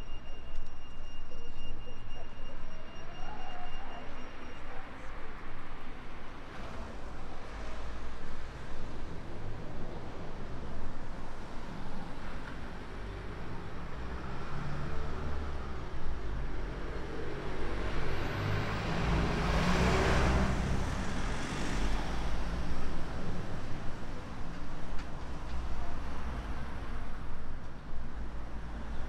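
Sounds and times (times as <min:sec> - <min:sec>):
cars rumbling past: 0:05.1 - 0:29.0.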